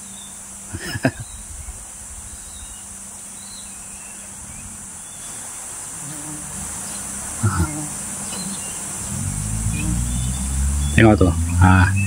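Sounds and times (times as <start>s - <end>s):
faint low hum: 0.0s - 12.0s
high-pitched insect chorus: 0.0s - 12.0s.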